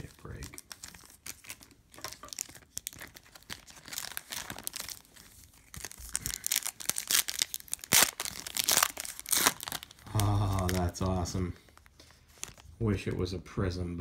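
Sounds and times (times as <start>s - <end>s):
foil wrapper tearing: 0.0s - 11.2s
foil wrapper crinkling: 0.0s - 12.8s.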